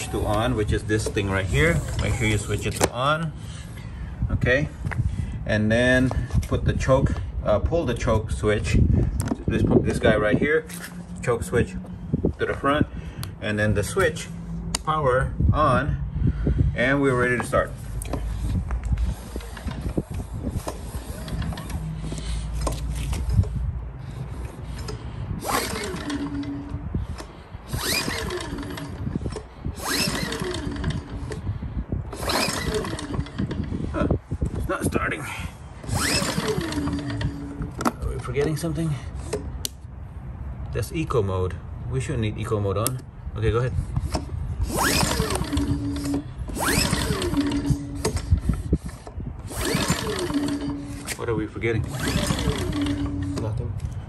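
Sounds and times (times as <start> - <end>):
pull-starter rasping whir: 0.0 - 35.1, 35.7 - 39.8, 42.8 - 54.0.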